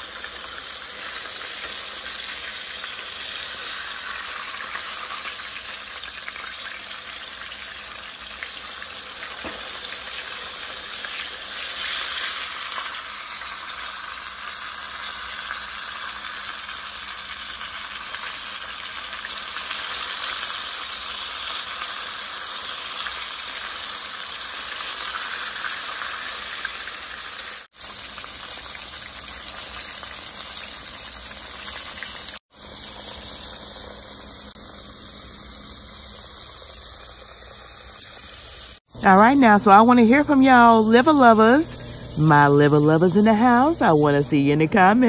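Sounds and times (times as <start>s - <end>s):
meat deep-frying in hot oil: 0.0s - 44.2s.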